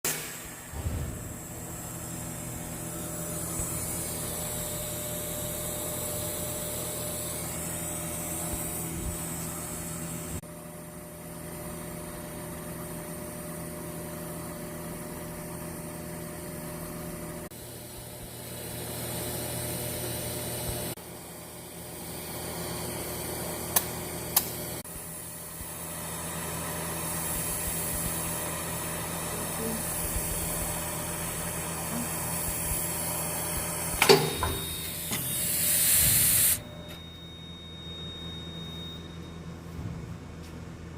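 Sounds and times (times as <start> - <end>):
welding equipment humming: 0.1 - 10.4, 17.6 - 40.5.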